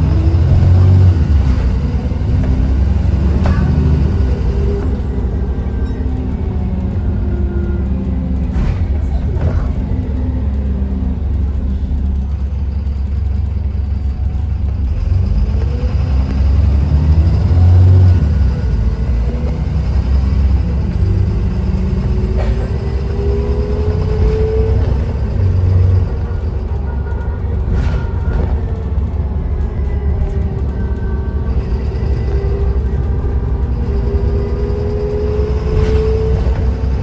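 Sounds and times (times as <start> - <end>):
bus engine rumbling: 0.0 - 37.0
rising engine whine: 0.0 - 37.0.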